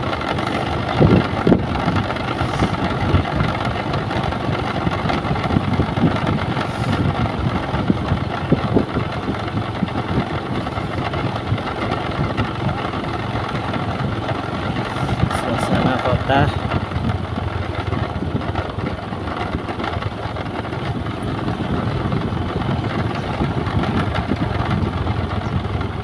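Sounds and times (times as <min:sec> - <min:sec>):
low rumble gusts: 0:00.0 - 0:26.0
vehicle engine and road noise: 0:00.0 - 0:26.0.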